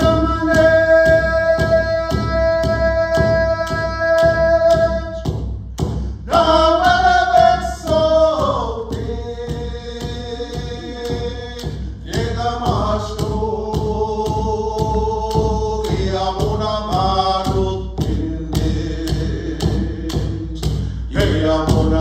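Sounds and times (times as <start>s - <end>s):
men singing in unison: 0.0s - 5.3s, 6.2s - 22.0s
hand drum beat: 0.0s - 22.0s
wooden clapper stick: 0.0s - 22.0s.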